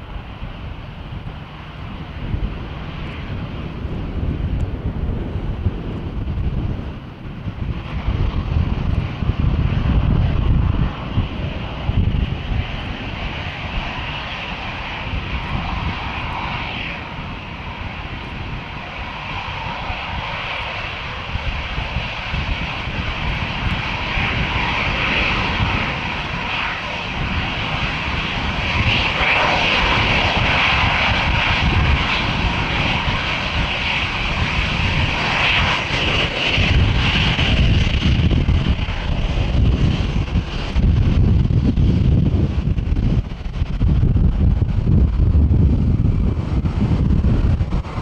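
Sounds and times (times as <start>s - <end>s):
jet engines whining: 0.0s - 48.0s
wind buffeting microphone: 0.0s - 48.0s.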